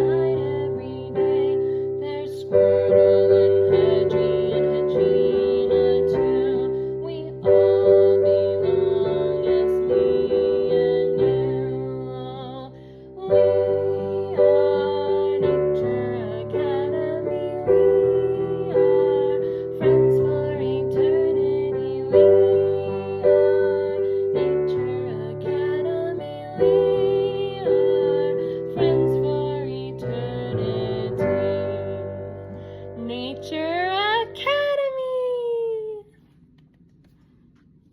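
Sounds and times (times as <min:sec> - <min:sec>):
piano chords: 0:00.0 - 0:35.1
woman singing: 0:00.0 - 0:36.2.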